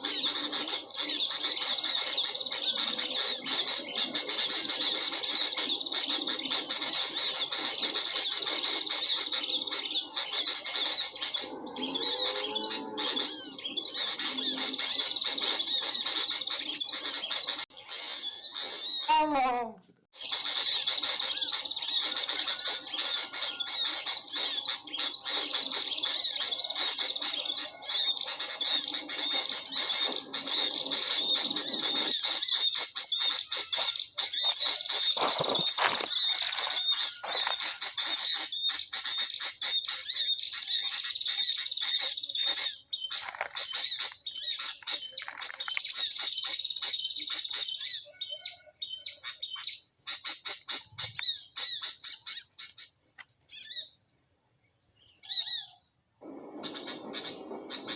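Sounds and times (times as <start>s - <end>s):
small birds chirping and twittering: 0.0s - 57.9s.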